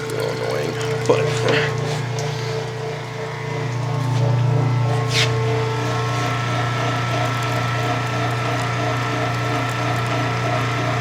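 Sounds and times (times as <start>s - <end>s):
mechanical chatter from drive: 0.0s - 11.0s
washing machine motor hum: 0.0s - 11.0s.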